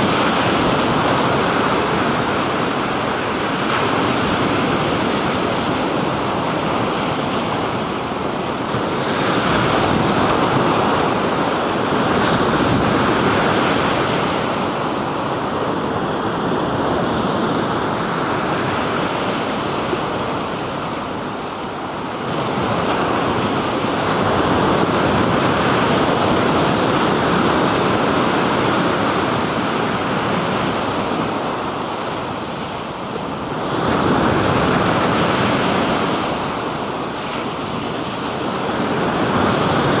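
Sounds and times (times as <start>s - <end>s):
waves breaking on shore: 0.0s - 40.0s
wind on microphone: 0.0s - 40.0s.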